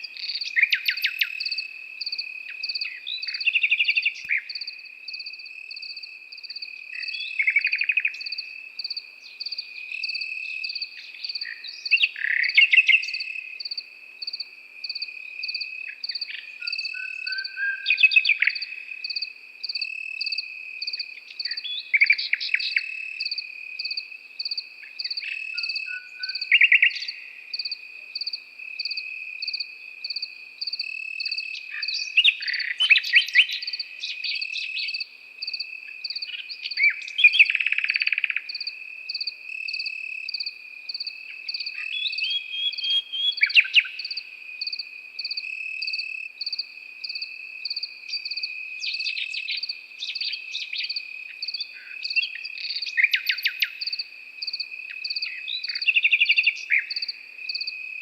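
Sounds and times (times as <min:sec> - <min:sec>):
crickets chirping: 0:00.0 - 0:58.0
nightingale singing: 0:00.0 - 0:58.0.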